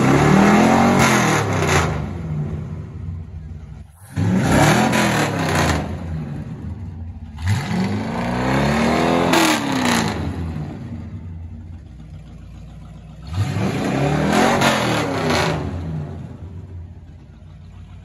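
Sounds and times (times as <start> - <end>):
pickup engine revving and idling: 0.0 - 18.0.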